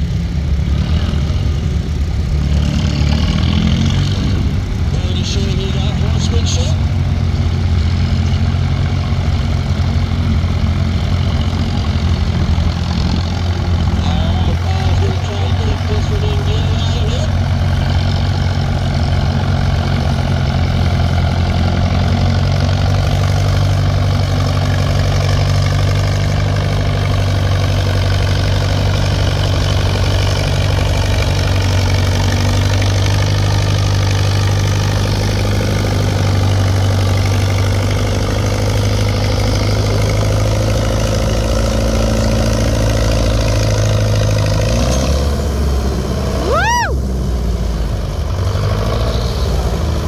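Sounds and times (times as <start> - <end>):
diesel tractor engine under load: 0.0 - 50.0.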